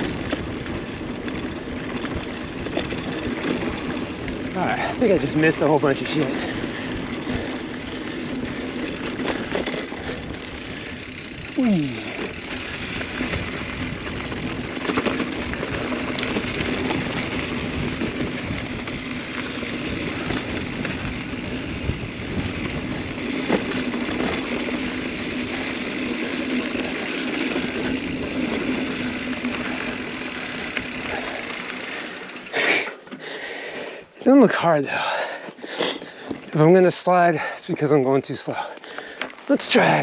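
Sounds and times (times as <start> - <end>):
rear hub buzzing: 0.0 - 33.2
clicks and rattles over bumps: 0.0 - 33.4, 38.6 - 39.8
bike tyre noise on dirt: 0.0 - 40.0.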